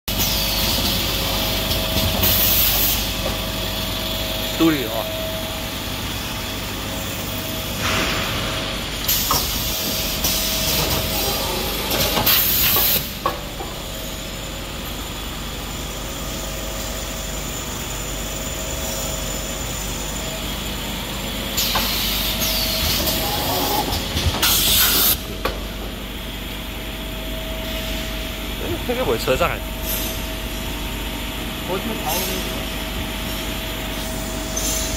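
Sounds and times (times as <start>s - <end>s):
machinery humming: 0.1s - 34.9s.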